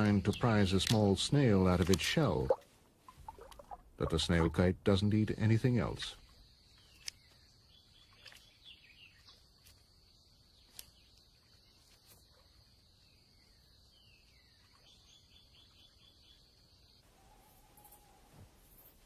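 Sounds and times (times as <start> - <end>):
small birds calling: 0.0 - 2.6, 3.2 - 18.9.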